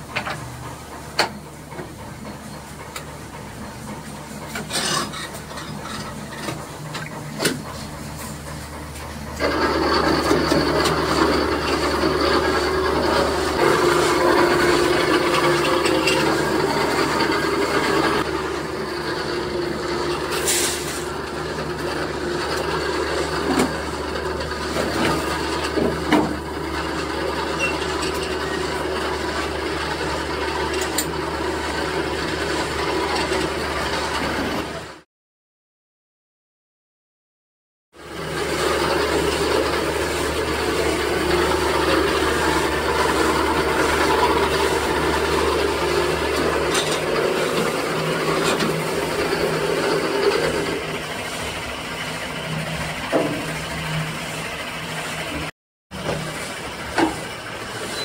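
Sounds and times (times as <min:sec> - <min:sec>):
machinery humming and grinding: 0:00.0 - 0:35.0, 0:38.0 - 0:58.0.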